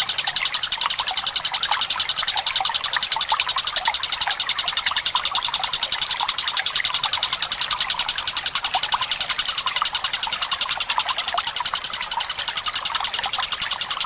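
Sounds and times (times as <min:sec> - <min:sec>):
kingfisher rattling call: 0:00.0 - 0:14.0
water trickling: 0:00.0 - 0:14.0.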